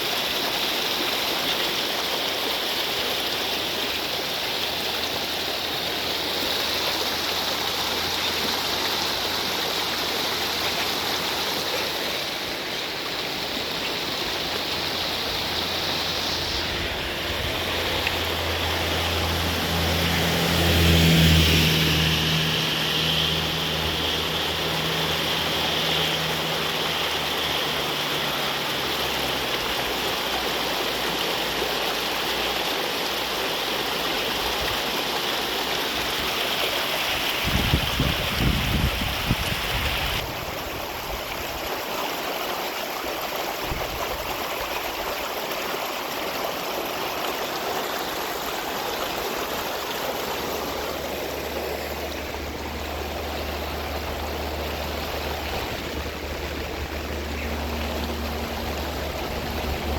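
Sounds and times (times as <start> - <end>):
running rainwater: 0.0 - 59.9.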